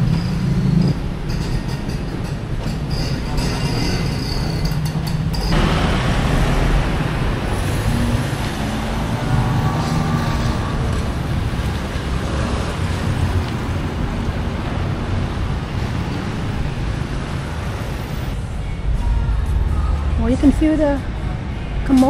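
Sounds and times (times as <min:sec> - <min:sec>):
road vehicles passing: 0:00.0 - 0:22.0.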